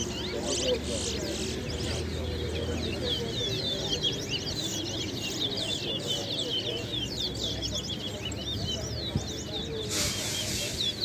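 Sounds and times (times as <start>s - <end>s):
crowd murmur: 0.0s - 11.0s
finches singing: 0.0s - 11.0s.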